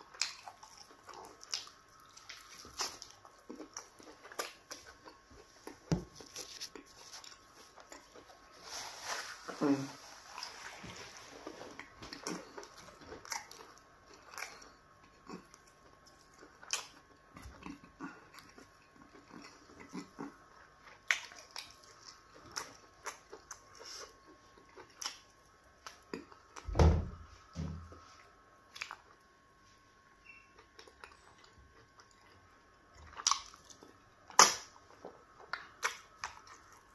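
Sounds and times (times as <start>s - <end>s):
lip smacks and chewing: 0.1s - 8.4s, 11.7s - 26.6s, 28.7s - 29.3s, 30.5s - 36.9s.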